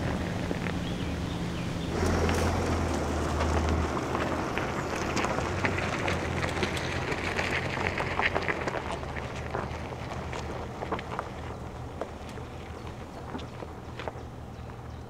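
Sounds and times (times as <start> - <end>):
diesel engine low hum: 0.0 - 15.0
tyres crunching on dirt: 0.0 - 15.0.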